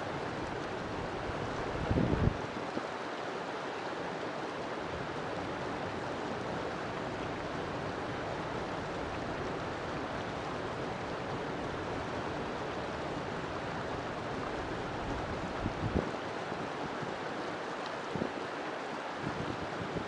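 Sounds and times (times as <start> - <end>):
river flowing over rocks: 0.0 - 20.0.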